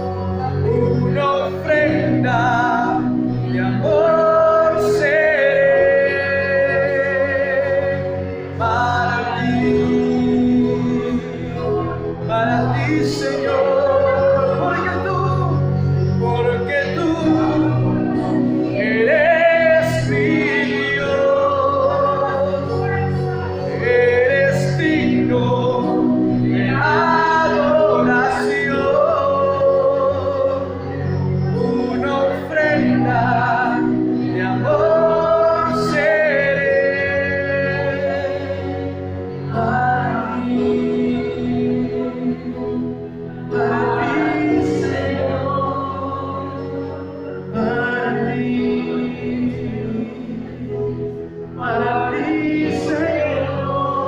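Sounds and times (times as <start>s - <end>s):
musical accompaniment: 0.0s - 54.0s.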